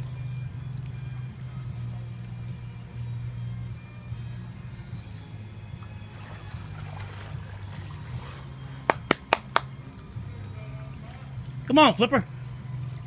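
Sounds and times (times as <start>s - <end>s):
steady low hum: 0.0s - 13.0s
water lapping and trickling: 0.0s - 13.0s.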